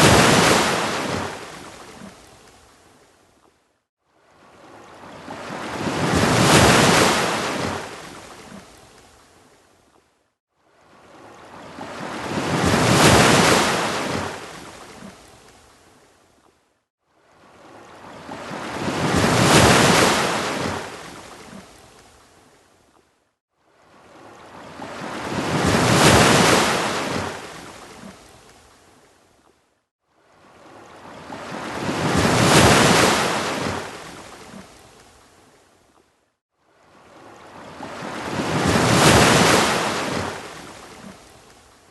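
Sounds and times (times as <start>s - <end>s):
ocean waves breaking on beach: 0.0s - 3.2s, 4.0s - 9.8s, 10.5s - 16.1s, 17.0s - 22.7s, 23.6s - 29.2s, 30.0s - 35.8s, 36.6s - 41.9s.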